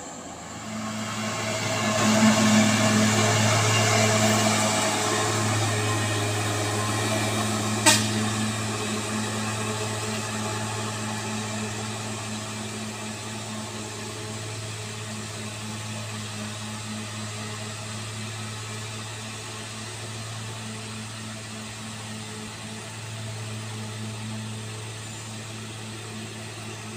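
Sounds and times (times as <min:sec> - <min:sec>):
diesel truck engine under load: 0:00.0 - 0:26.9.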